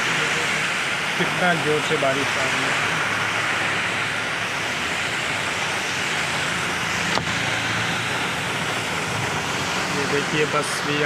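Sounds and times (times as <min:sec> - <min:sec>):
heavy rain pouring: 0:00.0 - 0:11.0
vehicle engines humming: 0:00.0 - 0:11.0.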